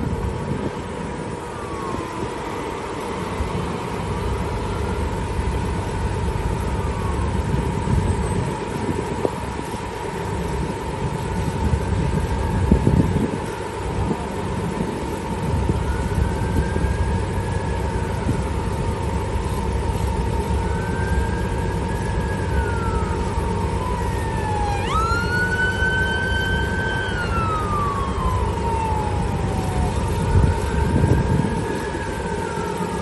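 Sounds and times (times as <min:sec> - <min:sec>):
emergency sirens wailing: 0:00.0 - 0:33.0
heavy low rumble: 0:00.0 - 0:33.0.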